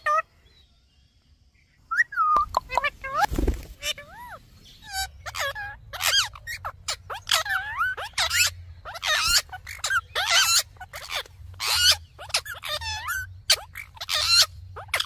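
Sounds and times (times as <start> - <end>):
parakeets chattering: 0.0 - 0.3, 2.4 - 15.0.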